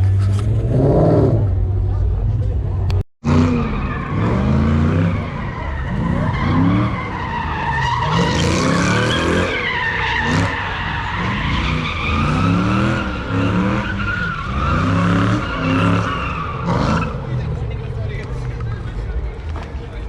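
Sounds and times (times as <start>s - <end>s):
car engine revving: 0.0s - 19.6s
tires squealing: 3.2s - 20.0s.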